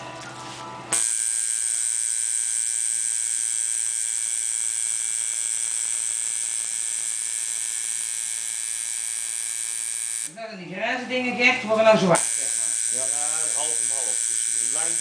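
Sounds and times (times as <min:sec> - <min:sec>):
tattoo machine buzzing: 0:00.9 - 0:10.4, 0:12.0 - 0:15.0.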